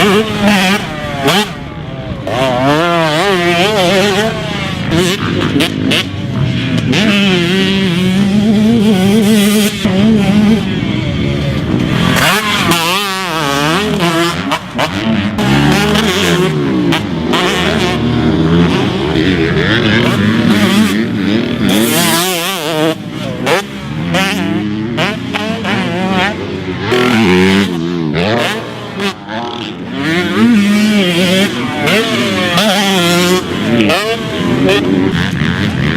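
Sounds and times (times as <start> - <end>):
motocross bike engine revving: 0.0 - 35.9.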